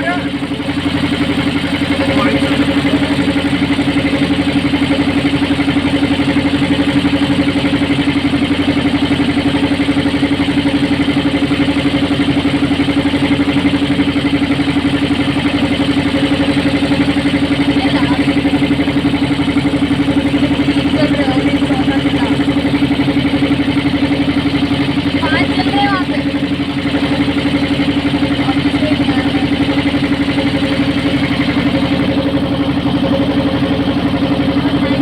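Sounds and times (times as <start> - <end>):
motorboat engine running: 0.0 - 35.0.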